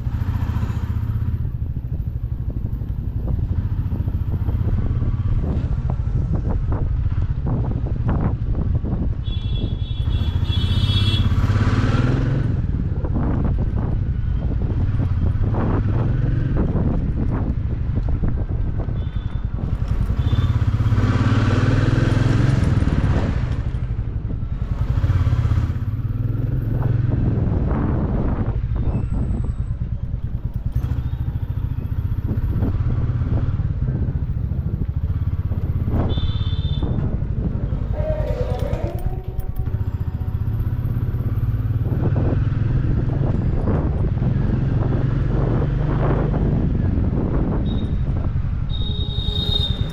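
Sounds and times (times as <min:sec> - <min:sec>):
motorcycle exhaust rumble: 0:00.0 - 0:49.9.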